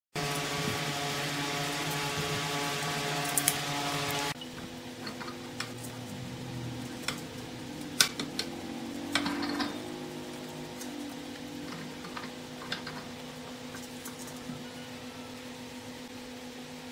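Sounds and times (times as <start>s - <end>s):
workshop motor hum: 0.1s - 16.9s.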